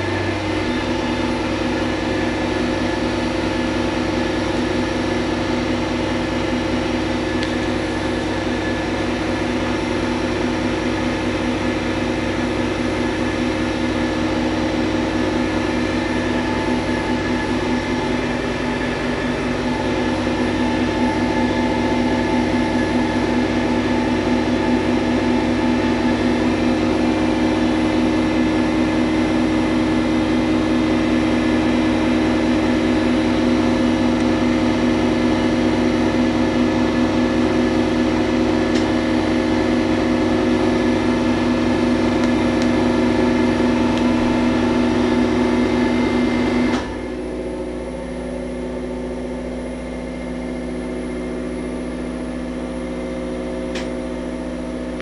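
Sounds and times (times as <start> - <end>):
refrigeration compressors humming: 0.0 - 55.0
vacuum cleaner running: 0.0 - 55.0.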